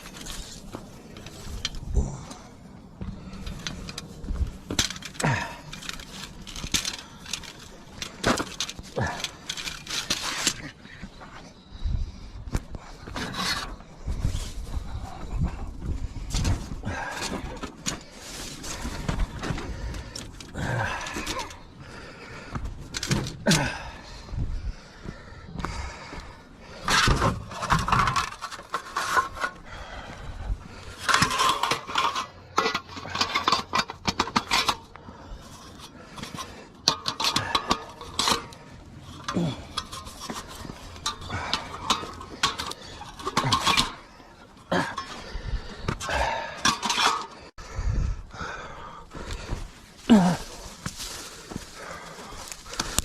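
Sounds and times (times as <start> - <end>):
objects scraping and clattering: 0.0 - 11.6, 12.5 - 23.8, 26.2 - 47.6, 49.1 - 53.0.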